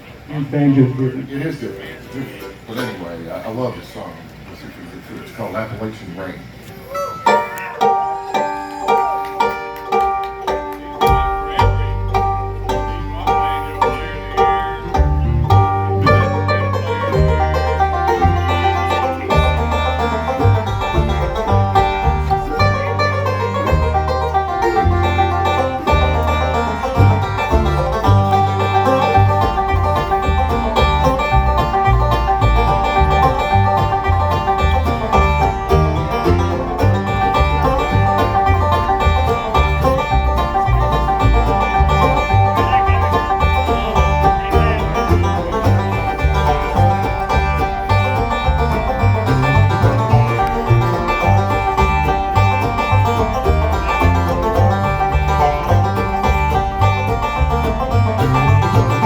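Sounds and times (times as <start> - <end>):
banjo picking: 0.0 - 4.5, 6.4 - 59.0
guitar: 6.5 - 59.0
low bass notes: 9.4 - 59.0.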